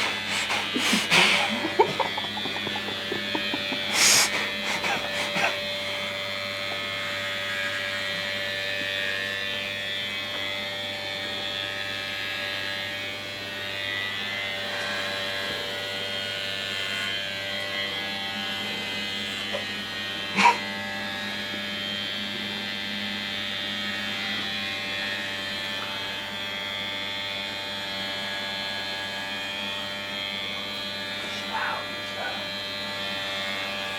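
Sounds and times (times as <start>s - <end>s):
electric hair clippers buzzing: 0.0s - 33.9s.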